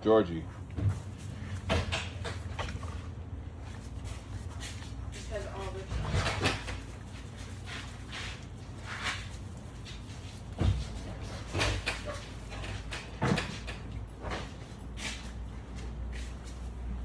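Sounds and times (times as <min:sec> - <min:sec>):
pigs scuffling: 0:00.4 - 0:17.0.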